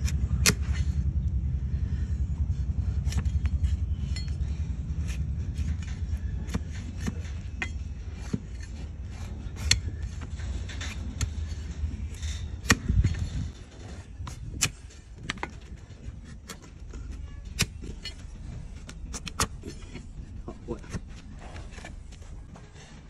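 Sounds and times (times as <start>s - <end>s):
blade cutting hoof: 0.0s - 1.0s, 2.8s - 22.9s
low rumble: 0.0s - 23.0s.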